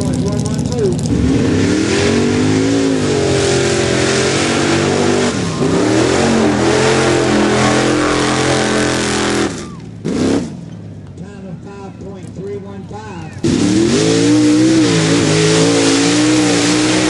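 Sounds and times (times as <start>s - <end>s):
truck engine revving hard: 0.0s - 10.7s, 13.4s - 17.0s.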